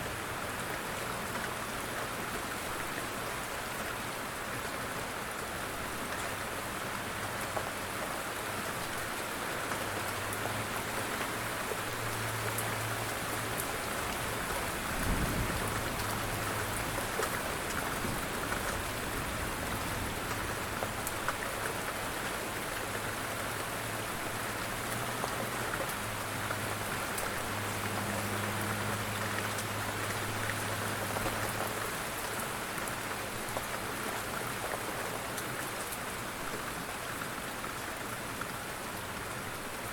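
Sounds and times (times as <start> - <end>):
light rain falling: 0.0 - 39.9
raindrops ticking on a surface: 0.1 - 39.9.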